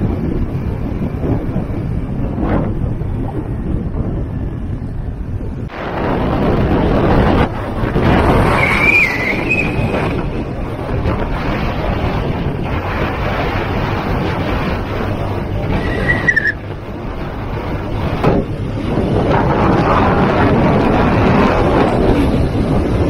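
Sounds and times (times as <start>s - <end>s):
scooter engine and road noise: 0.0s - 23.0s
wind rushing over microphone: 0.0s - 23.0s.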